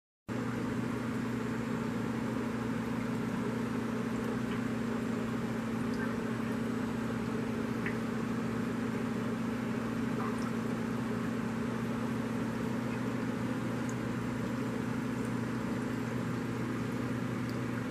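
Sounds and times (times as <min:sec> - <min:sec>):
aquarium pump humming: 0:00.3 - 0:17.9.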